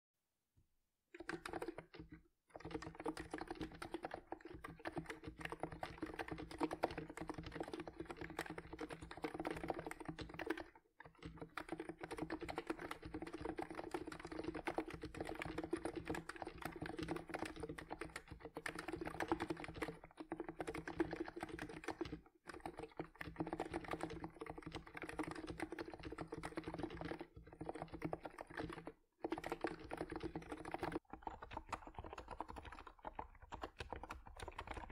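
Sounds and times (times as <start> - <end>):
keyboard typing: 1.1 - 34.9.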